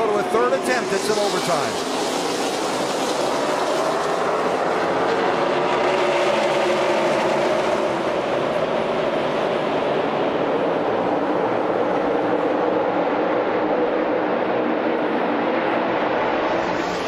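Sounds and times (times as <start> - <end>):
race car engines at full throttle: 0.0 - 17.0.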